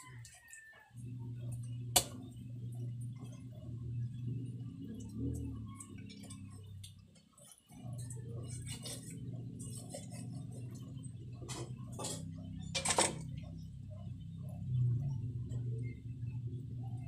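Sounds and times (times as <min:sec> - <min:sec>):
steady low hum: 0:00.9 - 0:17.0.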